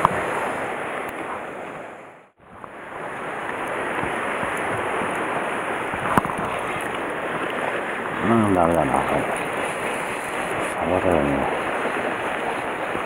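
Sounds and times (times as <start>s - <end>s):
sea surf against rocks: 0.0s - 13.0s
wind on the microphone: 2.5s - 13.0s.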